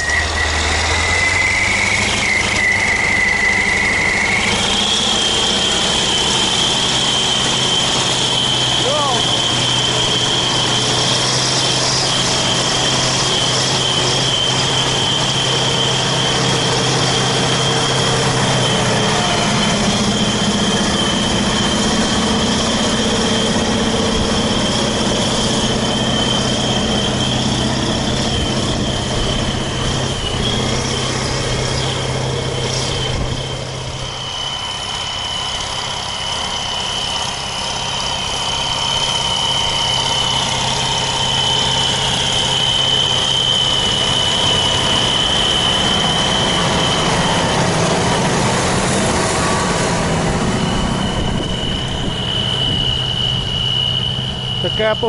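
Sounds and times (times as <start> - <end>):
high-pitched whine: 0.0 - 55.0
tractor diesel engine running: 0.0 - 55.0.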